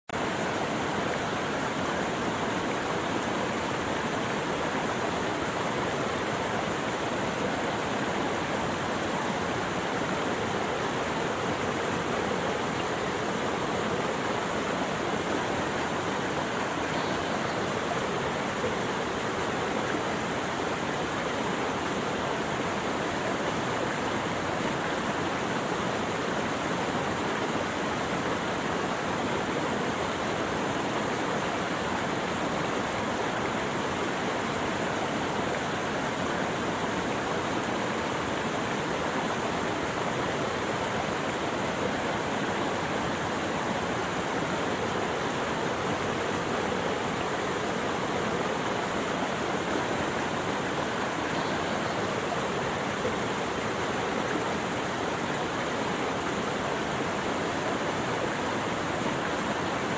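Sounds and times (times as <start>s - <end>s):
running water rushing: 0.1s - 59.9s.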